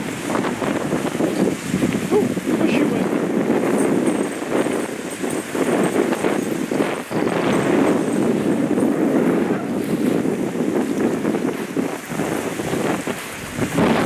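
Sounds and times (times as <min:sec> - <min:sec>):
waves washing onto shore: 0:00.0 - 0:14.0
wind buffeting microphone: 0:00.0 - 0:14.0.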